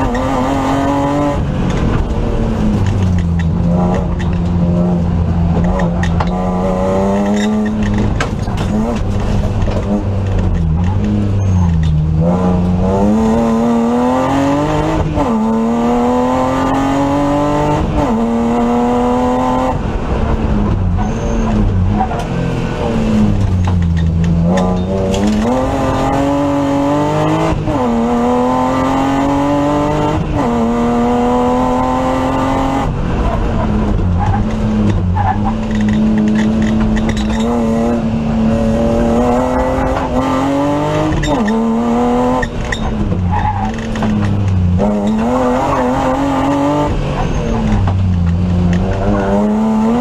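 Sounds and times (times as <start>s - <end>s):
car engine revving hard: 0.0s - 23.5s, 24.1s - 50.0s.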